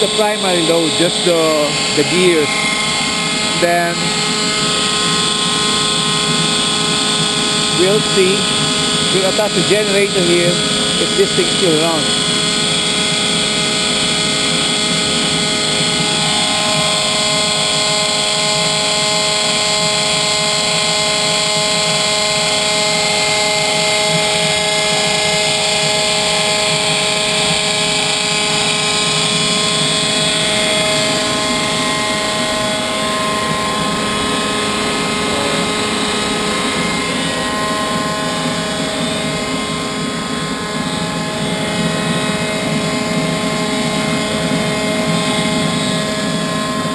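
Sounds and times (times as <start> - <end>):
gas turbine rushing: 0.0 - 46.9
whining gear tones: 0.0 - 46.9.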